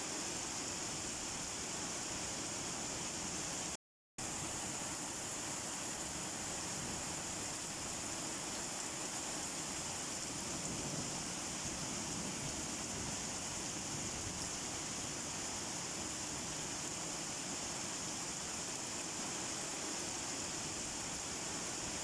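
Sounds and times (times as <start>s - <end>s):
steady rain falling: 0.1s - 22.0s.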